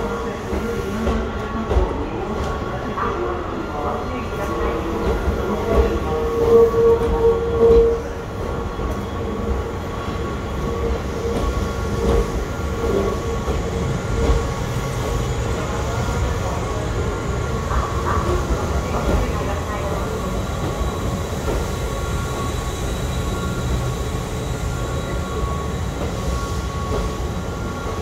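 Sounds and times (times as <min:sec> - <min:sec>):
train squealing: 0:00.0 - 0:28.0
train wheels rumbling on track: 0:00.0 - 0:28.0.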